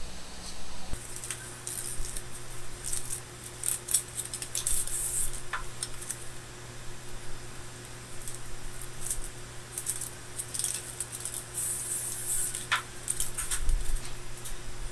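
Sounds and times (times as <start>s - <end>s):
aluminium foil crinkling: 1.0s - 6.4s, 7.8s - 14.6s.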